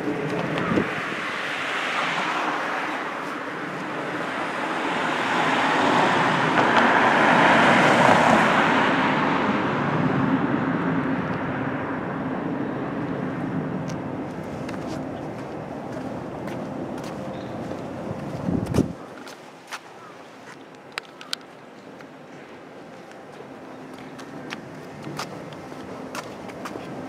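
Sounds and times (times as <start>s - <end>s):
traffic hum: 0.0s - 27.0s.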